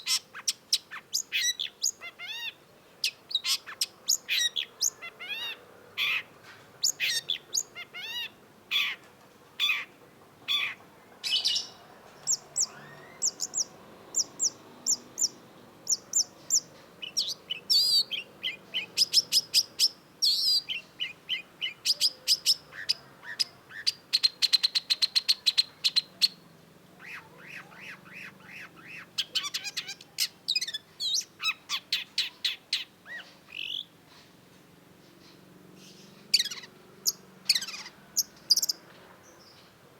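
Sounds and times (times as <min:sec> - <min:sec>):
bird singing: 0:00.0 - 0:34.0, 0:35.1 - 0:39.8.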